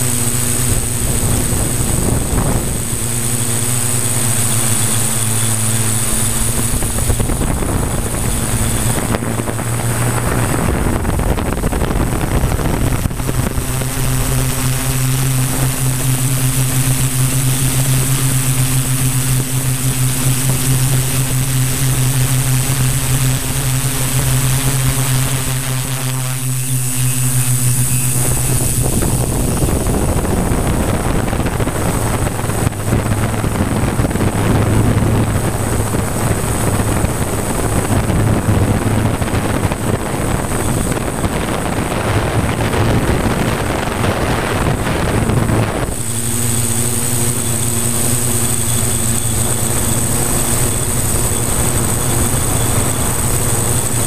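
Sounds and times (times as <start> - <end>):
drone motors humming: 0.0 - 54.0
rough rushing noise: 0.0 - 54.0.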